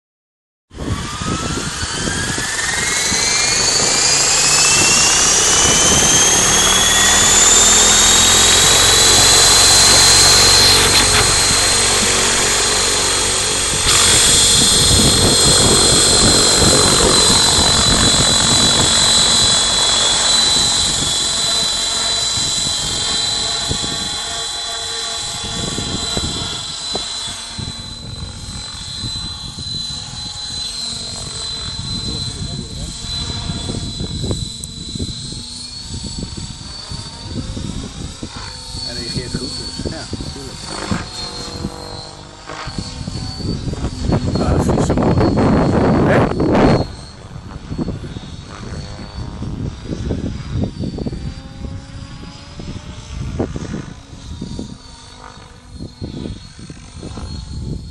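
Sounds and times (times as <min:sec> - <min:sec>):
rc helicopter motor whine: 0:00.7 - 0:57.9.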